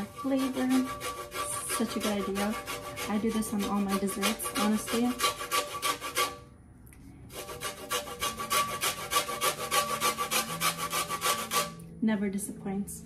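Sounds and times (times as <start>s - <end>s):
lemon rasping on metal grater: 0.0s - 6.4s, 7.3s - 11.8s.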